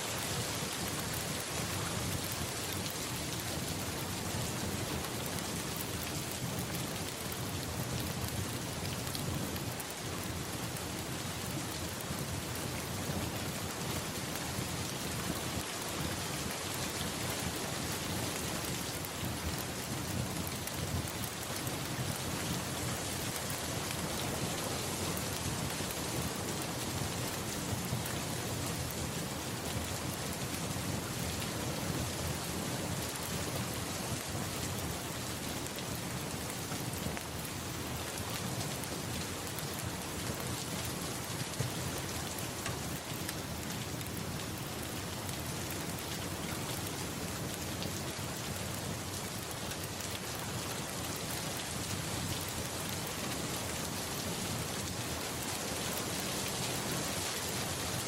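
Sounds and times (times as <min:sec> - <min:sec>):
rain falling: 0:00.0 - 0:58.0
raindrops pattering on a surface: 0:00.0 - 0:58.0.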